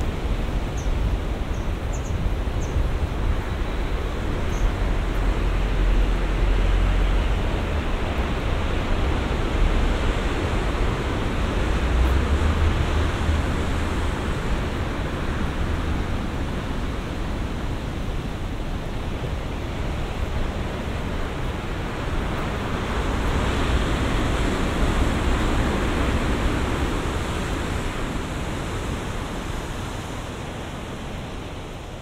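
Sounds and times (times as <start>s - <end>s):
sea rushing: 0.0s - 32.0s
wind: 0.0s - 32.0s.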